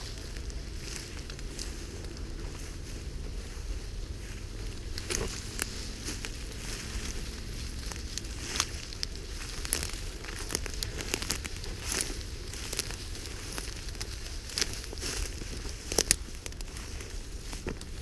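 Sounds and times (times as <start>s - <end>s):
dry grass rustling and crackling: 0.0s - 18.0s.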